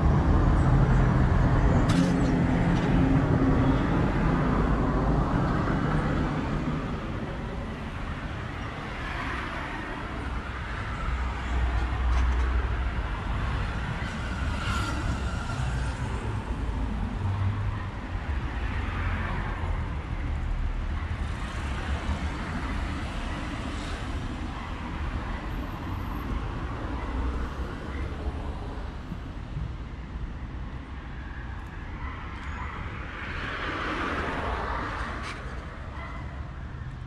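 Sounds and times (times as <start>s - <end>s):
cars passing by: 0.0s - 37.0s.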